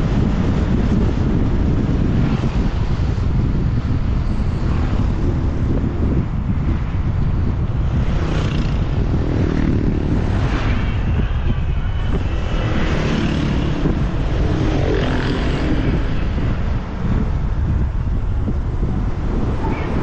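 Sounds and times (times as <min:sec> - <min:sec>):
surrounding traffic: 0:00.0 - 0:20.0
wind rumble on microphone: 0:00.0 - 0:20.0.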